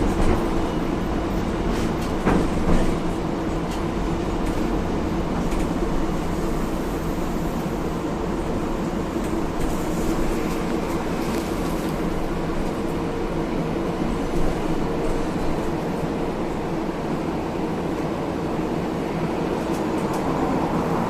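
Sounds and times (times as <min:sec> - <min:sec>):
tram wheel and motor noise: 0:00.0 - 0:21.0.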